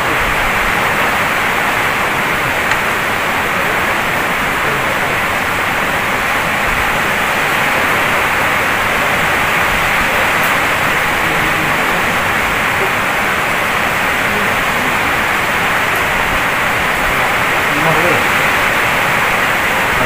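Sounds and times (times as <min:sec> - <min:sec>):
steady static hiss: 0:00.0 - 0:20.0.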